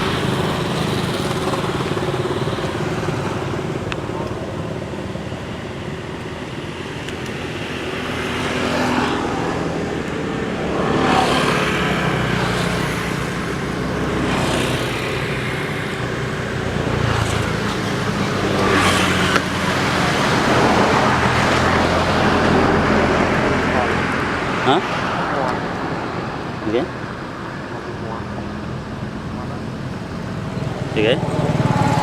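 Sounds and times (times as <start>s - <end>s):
engine hum: 0.0s - 32.0s
vehicles passing by: 0.0s - 32.0s.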